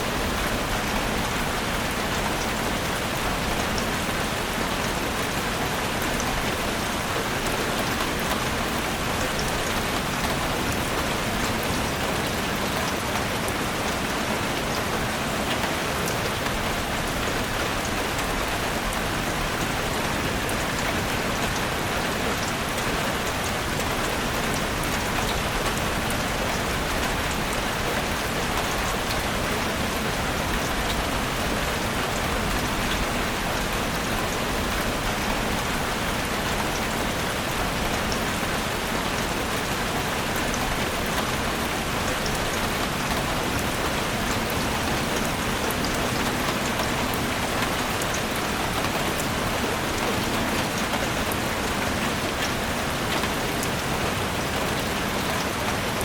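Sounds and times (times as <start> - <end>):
rain falling in forest: 0.0 - 56.0
raindrops ticking on leaves: 0.0 - 56.0.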